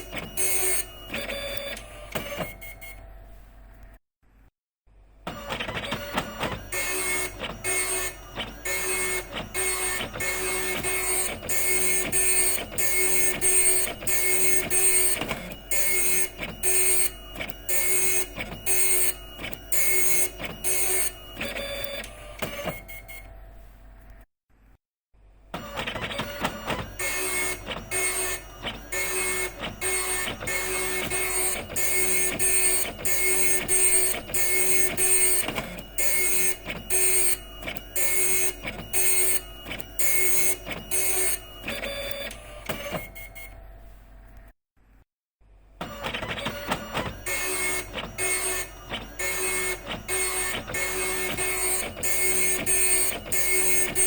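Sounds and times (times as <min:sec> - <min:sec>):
dot matrix printer printing: 0:00.0 - 0:03.3, 0:05.3 - 0:23.6, 0:25.6 - 0:43.8, 0:45.8 - 0:54.0.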